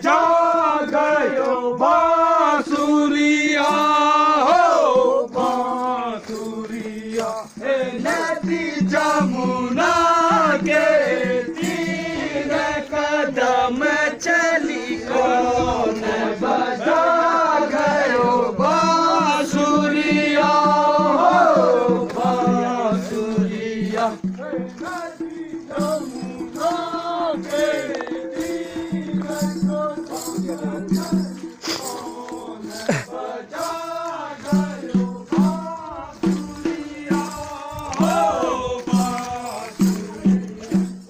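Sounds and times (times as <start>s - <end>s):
men singing together: 0.0s - 41.0s
steady percussive beat: 0.0s - 41.0s.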